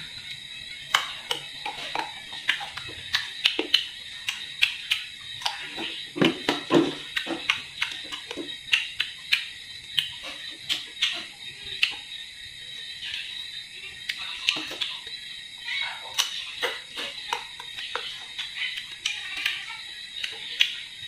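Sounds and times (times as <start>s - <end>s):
chewing crisp fruit: 0.0s - 21.0s
steady high-pitched hiss: 0.0s - 21.0s.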